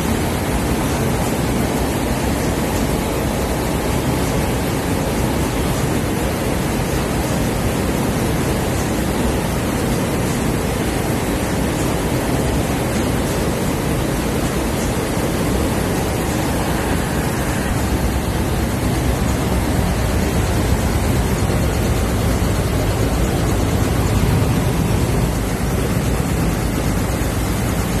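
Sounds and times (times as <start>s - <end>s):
seed sieving machine running: 0.0s - 28.0s.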